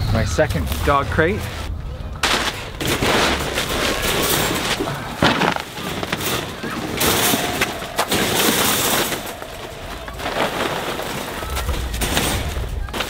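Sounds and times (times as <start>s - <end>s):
metal wire crate rattling: 2.2s - 13.0s.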